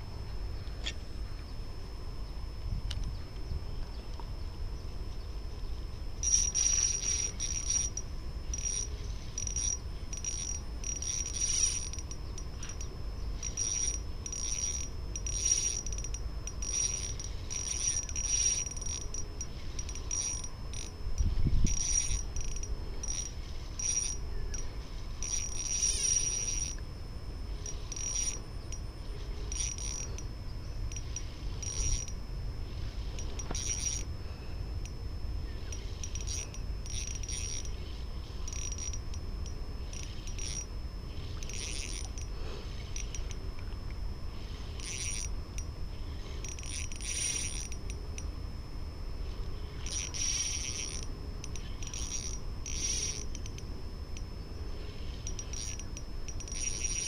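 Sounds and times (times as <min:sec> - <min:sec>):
insects or frogs chirping: 0:00.0 - 0:57.0
low wind rumble: 0:00.0 - 0:57.0.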